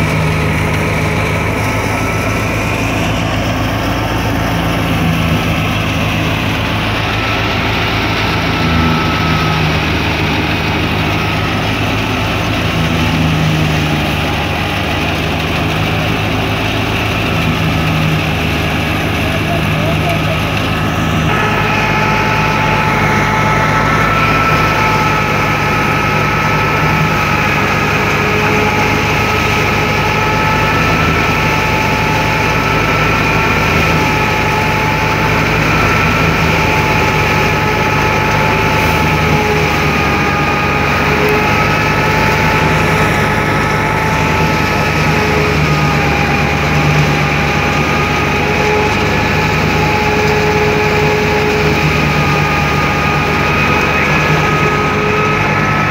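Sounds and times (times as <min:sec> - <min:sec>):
thresher machine drone: 0:00.0 - 0:55.9
tractor engine low hum: 0:00.0 - 0:55.9.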